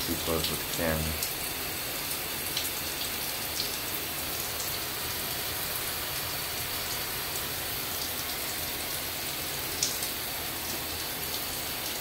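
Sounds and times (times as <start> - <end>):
shower water spray on leaves: 0.0 - 12.0.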